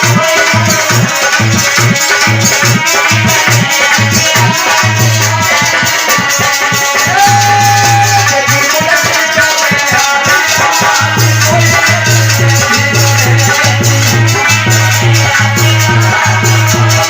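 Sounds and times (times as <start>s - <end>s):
upbeat instrumental music: 0.0s - 17.0s.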